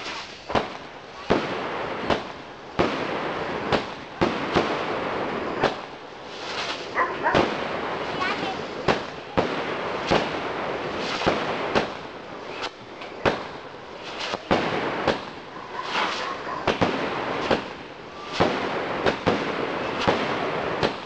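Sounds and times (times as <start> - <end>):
fireworks bangs: 0.0 - 21.0
fireworks crackling and fizzing: 0.0 - 21.0.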